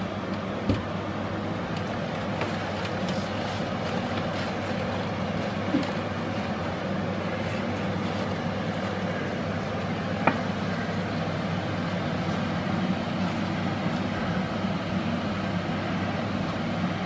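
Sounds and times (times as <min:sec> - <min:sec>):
noisy rumble: 0:00.0 - 0:17.0.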